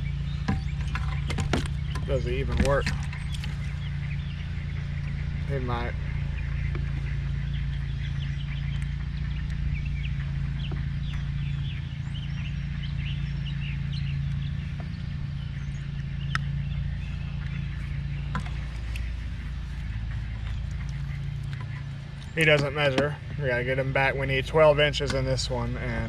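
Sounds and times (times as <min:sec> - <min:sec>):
birds chirping: 0:00.0 - 0:26.0
steady low hum: 0:00.0 - 0:26.0.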